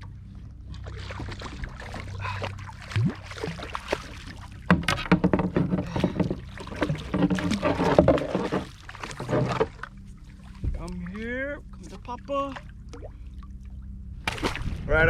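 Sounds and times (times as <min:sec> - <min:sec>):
water lapping against kayak: 0:00.0 - 0:14.9.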